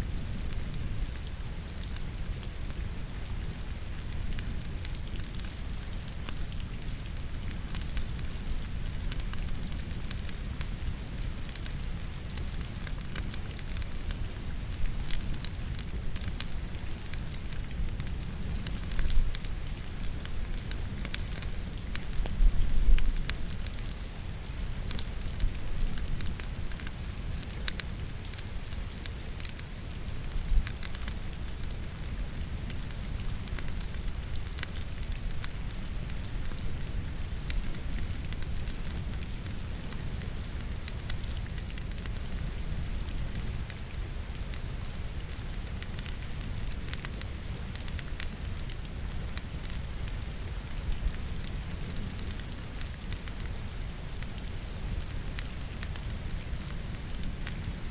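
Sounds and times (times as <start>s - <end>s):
falling rain: 0.0s - 57.9s
wood fire crackling and popping: 0.0s - 57.9s.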